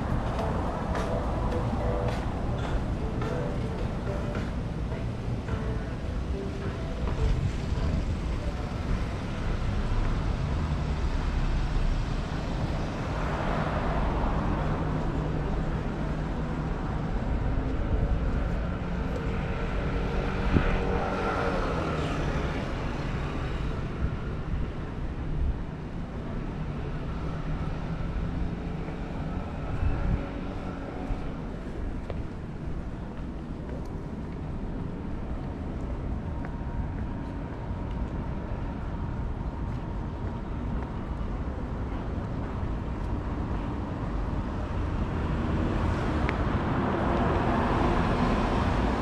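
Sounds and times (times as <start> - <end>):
traffic engines humming: 0.0 - 49.0
vehicles passing: 0.0 - 49.0.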